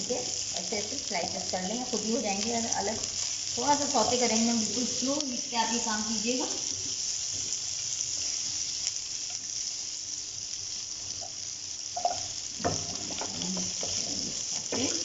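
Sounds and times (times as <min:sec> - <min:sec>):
vegetables frying in oil: 0:00.0 - 0:15.0.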